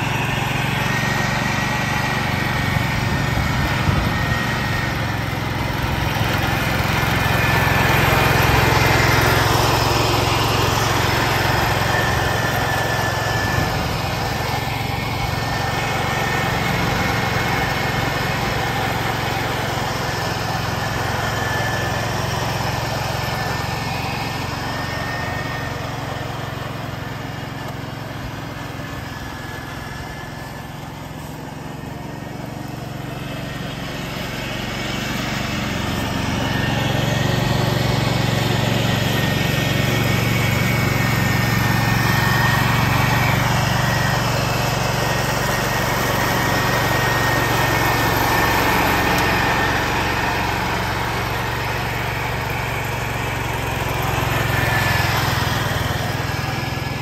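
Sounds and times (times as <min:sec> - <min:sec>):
garden tractor engine running: 0:00.0 - 0:57.0
mower deck whine: 0:00.0 - 0:57.0.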